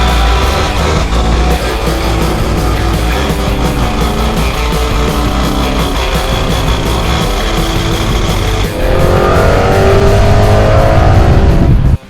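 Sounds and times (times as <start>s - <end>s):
car engine revving: 0.0s - 12.0s
rock music with guitar: 0.0s - 12.0s.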